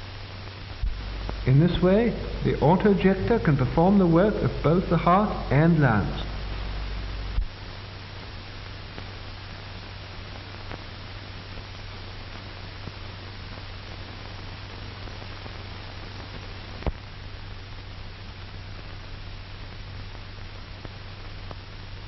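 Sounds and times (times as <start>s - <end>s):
film soundtrack hiss and hum: 0.0s - 22.0s.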